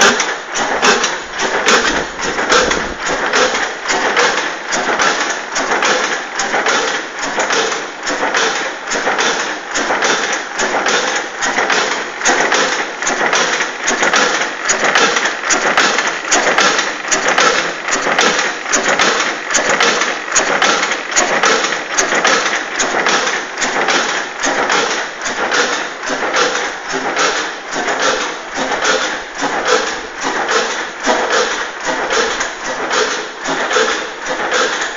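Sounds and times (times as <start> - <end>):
old engine clattering: 0.0 - 34.9.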